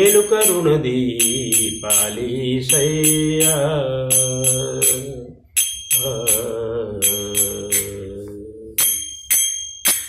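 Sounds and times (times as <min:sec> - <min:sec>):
hand cymbals struck: 0:00.0 - 0:08.2, 0:08.8 - 0:10.0
man singing: 0:00.0 - 0:09.1.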